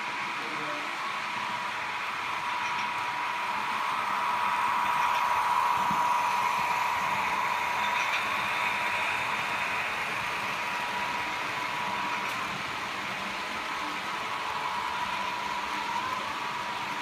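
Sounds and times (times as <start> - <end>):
model trains whirring: 0.0 - 17.0.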